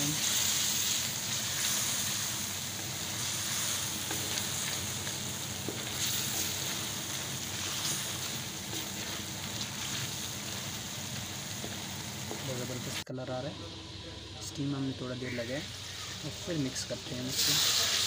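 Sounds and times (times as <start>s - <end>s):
food sizzling in a pan: 0.0s - 13.0s, 15.2s - 18.0s.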